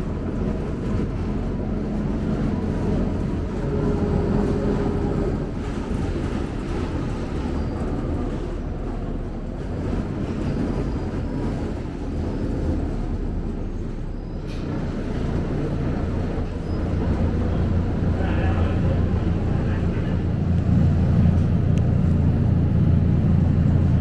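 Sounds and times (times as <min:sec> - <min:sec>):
bus diesel engine rumble: 0:00.0 - 0:24.0.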